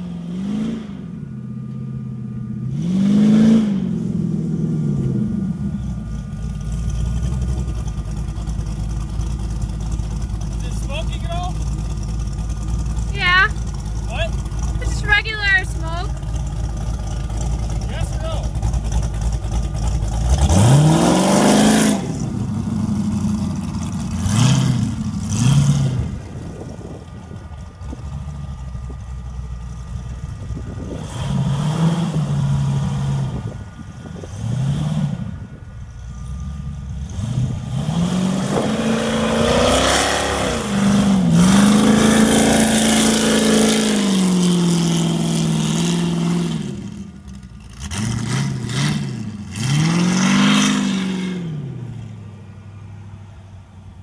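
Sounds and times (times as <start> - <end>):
buggy engine revving: 0.0 - 1.8, 2.5 - 52.8.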